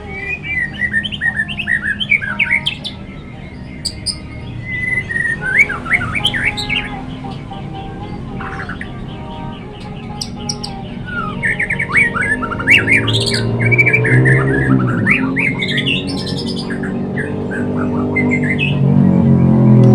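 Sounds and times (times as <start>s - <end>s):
bird singing: 0.0s - 19.9s.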